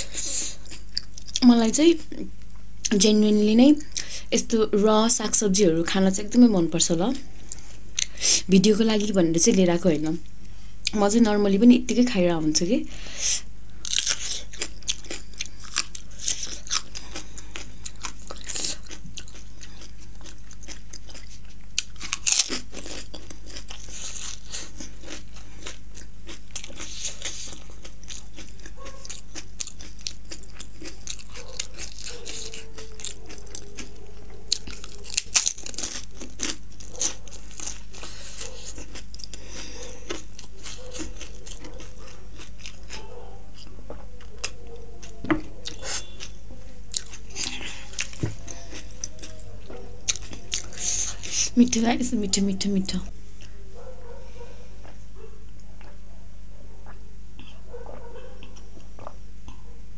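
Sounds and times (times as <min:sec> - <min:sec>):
crunching and chewing food: 0:00.0 - 0:03.0, 0:05.7 - 0:08.2, 0:12.9 - 0:56.1, 0:56.8 - 0:59.7.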